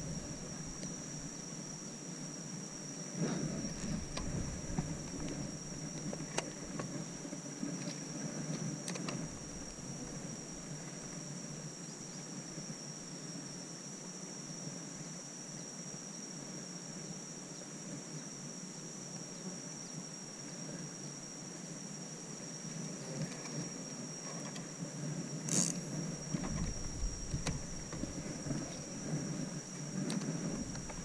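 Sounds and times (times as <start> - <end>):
high-pitched insect drone: 0.0 - 17.6, 18.2 - 31.0.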